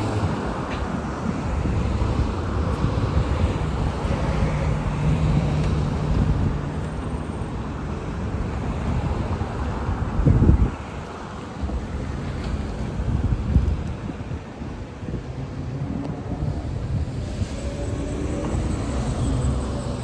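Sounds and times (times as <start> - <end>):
wind buffeting microphone: 0.0 - 7.2, 8.0 - 20.0
traffic rumble: 0.0 - 20.0.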